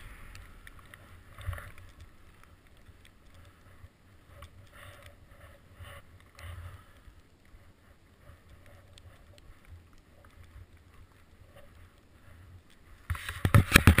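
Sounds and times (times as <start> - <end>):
scratchy crackling on camera: 0.0 - 14.0
sliding down snow slope: 0.0 - 14.0.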